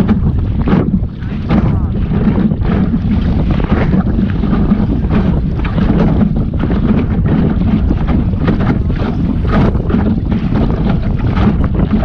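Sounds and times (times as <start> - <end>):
water slapping against hull: 0.0 - 12.0
wind buffeting microphone: 0.0 - 12.0.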